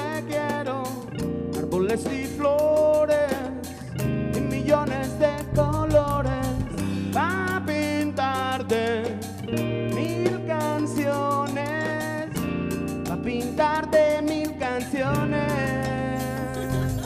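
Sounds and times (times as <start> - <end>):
drum kit: 0.0 - 17.0
electric guitar: 0.0 - 17.0
man singing into microphone: 0.0 - 17.0.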